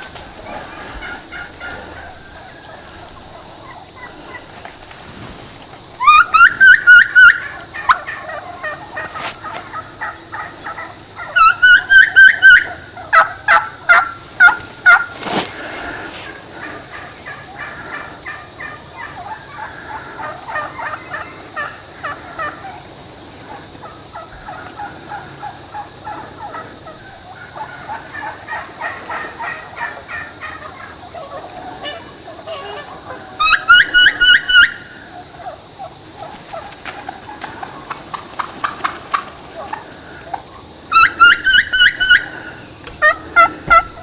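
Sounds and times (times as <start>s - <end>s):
turkey hens clucking and purring: 0.0s - 44.0s
turkey yelps: 0.4s - 4.6s, 6.0s - 15.1s, 16.9s - 22.9s, 23.8s - 44.0s.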